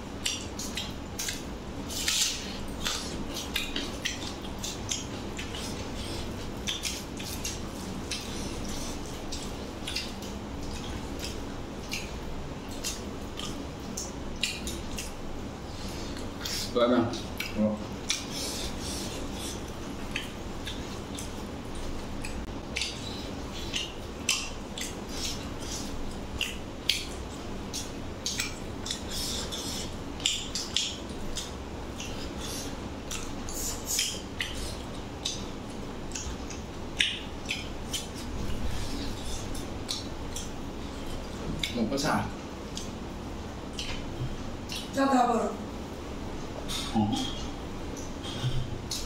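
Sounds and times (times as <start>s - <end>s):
chewing and lip-smacking: 0.0s - 45.0s, 46.0s - 49.0s.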